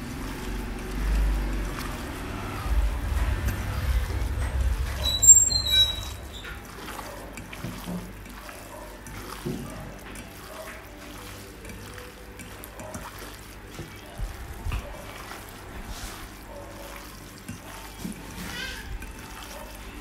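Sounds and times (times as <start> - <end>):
hand squishing food in bowl: 0.0 - 3.7, 6.6 - 20.0.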